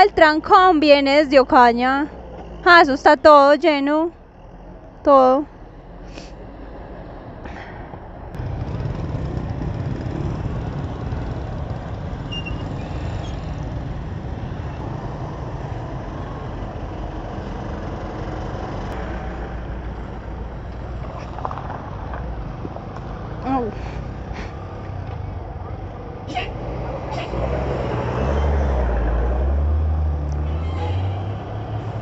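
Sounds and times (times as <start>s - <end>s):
motorcycle engine rumbling: 0.0s - 27.5s.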